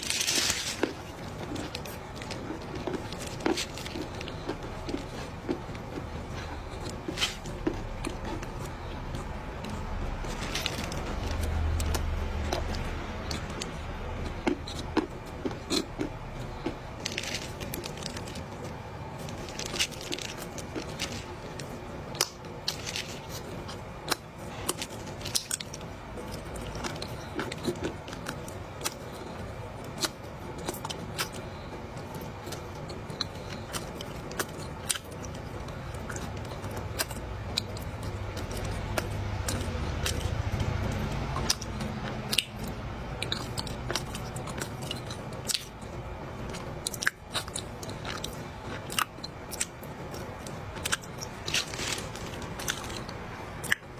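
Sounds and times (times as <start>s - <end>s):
dry clay being chewed: 0.0s - 53.9s.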